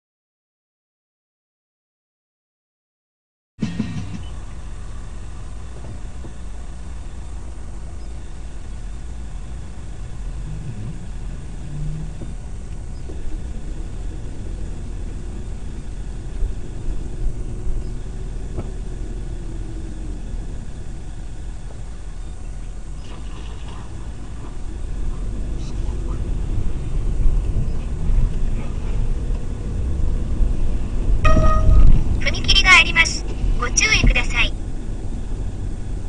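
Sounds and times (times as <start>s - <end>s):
car engine and tyres rumbling: 3.6s - 36.0s.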